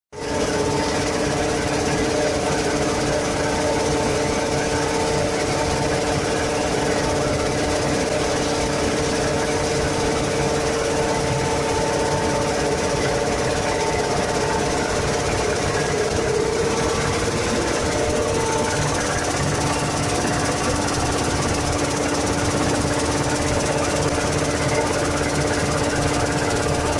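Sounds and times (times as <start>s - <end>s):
machine drone: 0.2s - 26.9s.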